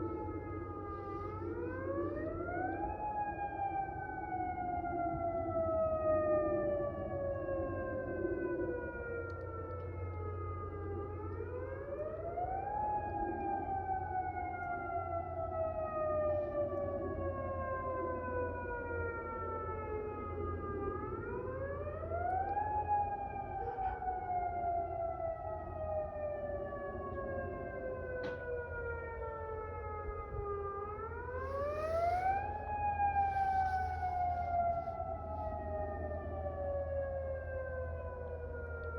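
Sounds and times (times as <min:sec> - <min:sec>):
tornado warning siren: 0:00.0 - 0:38.9.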